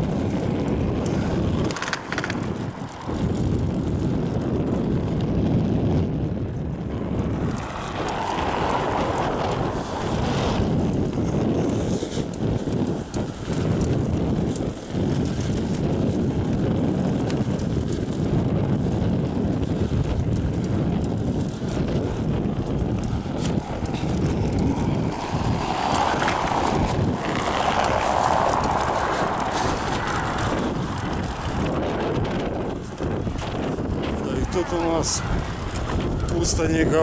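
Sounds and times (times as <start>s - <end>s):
traffic rumble: 0.0s - 37.0s
wind on microphone: 0.0s - 37.0s.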